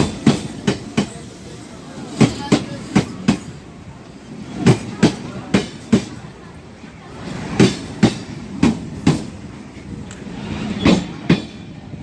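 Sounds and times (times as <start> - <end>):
train wheels clacking over rail joints: 0.0 - 1.4, 2.0 - 6.4, 7.2 - 12.0.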